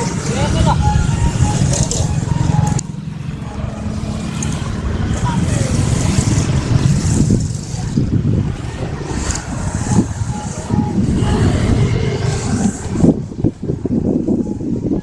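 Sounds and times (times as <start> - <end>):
train passing rumble: 0.0 - 14.6
wind buffeting microphone: 0.0 - 15.0.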